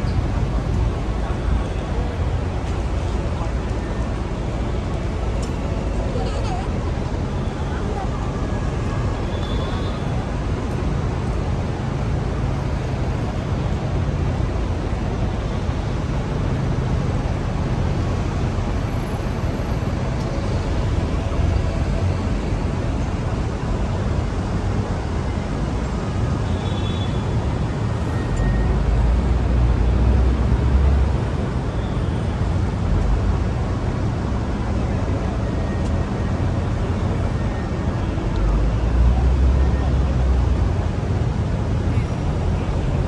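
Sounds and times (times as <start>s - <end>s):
heavy vehicle engine rumble: 0.0s - 26.5s, 27.2s - 43.0s
traffic roar: 0.0s - 43.0s.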